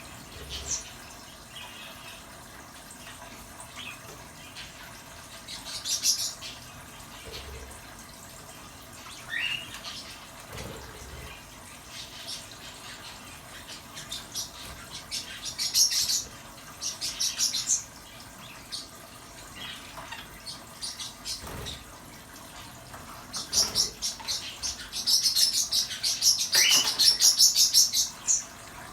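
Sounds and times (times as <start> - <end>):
small birds chirping: 0.0 - 7.8, 9.0 - 28.9
faint hiss of water: 0.0 - 28.9.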